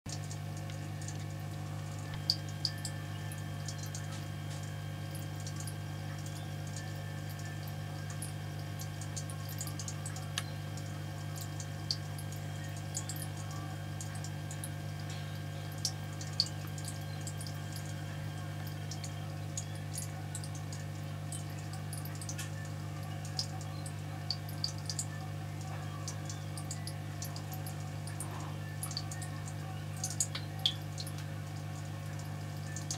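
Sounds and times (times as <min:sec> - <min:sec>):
aquarium pump humming: 0:00.1 - 0:32.9
water dripping and bubbling: 0:00.1 - 0:32.9.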